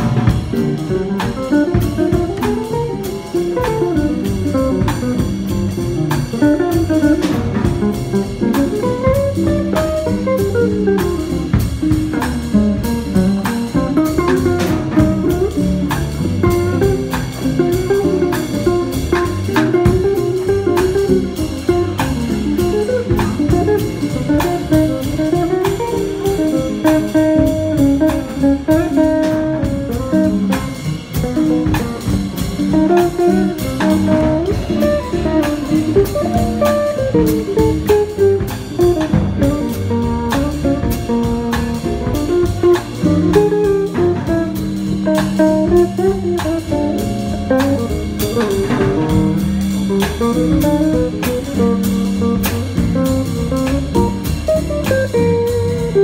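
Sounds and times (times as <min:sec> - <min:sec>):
archtop guitar melody: 0:00.0 - 0:56.0
drums steady beat: 0:00.0 - 0:56.0
upright bass line: 0:00.0 - 0:56.0.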